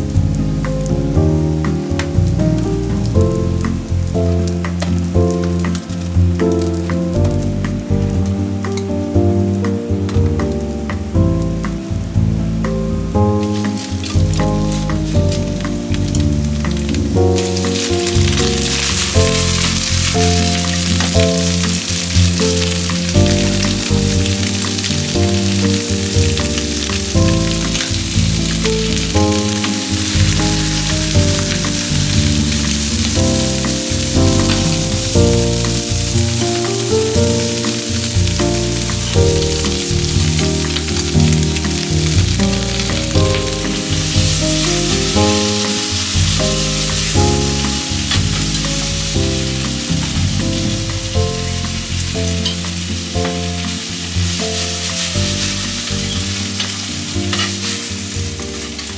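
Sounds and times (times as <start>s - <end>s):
food sizzling in a pan: 0.0s - 58.9s
slow acoustic music: 0.0s - 58.9s.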